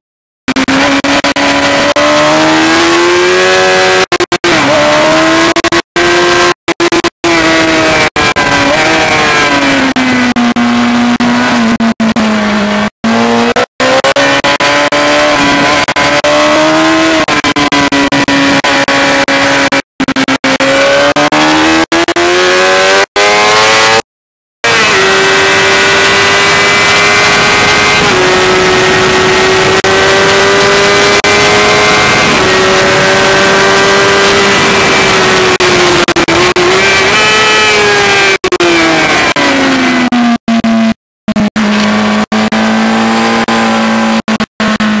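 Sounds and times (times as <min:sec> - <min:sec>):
motorcycle engine revving: 0:00.5 - 0:45.0.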